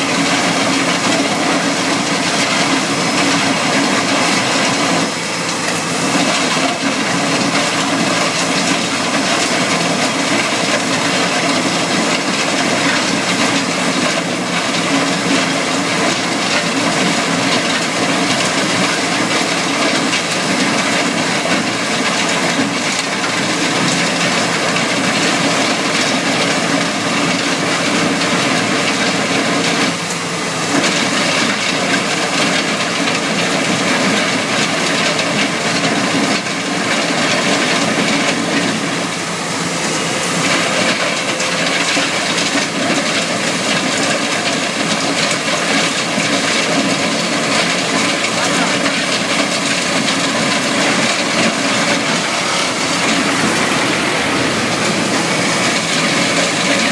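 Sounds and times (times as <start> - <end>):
industrial vacuum sucking: 0.0 - 34.9, 35.6 - 56.9
planer grinding ground: 0.0 - 56.9.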